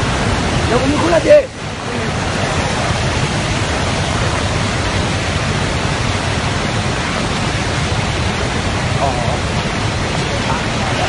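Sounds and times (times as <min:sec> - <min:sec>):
flood torrent rushing: 0:00.0 - 0:11.0.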